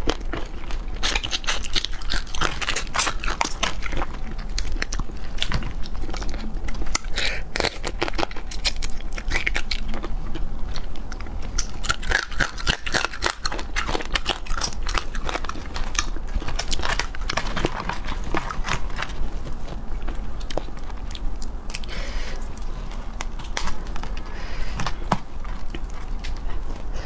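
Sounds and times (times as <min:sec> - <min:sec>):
crab shells crunching while chewing: 0:00.0 - 0:27.0.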